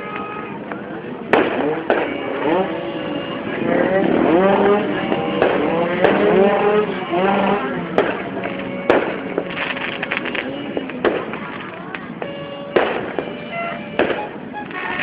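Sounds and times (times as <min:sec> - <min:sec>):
crowd calling out: 0:00.0 - 0:15.0
fireworks bangs: 0:01.2 - 0:15.0.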